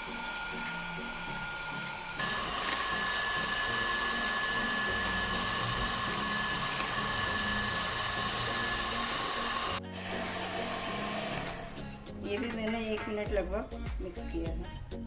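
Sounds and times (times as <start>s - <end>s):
electric mixer whining: 0.0s - 12.1s.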